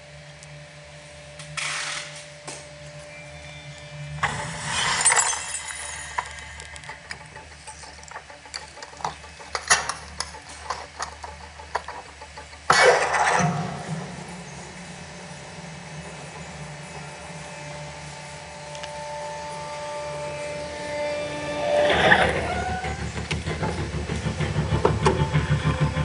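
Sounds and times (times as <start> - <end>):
film soundtrack music: 3.1 - 26.0.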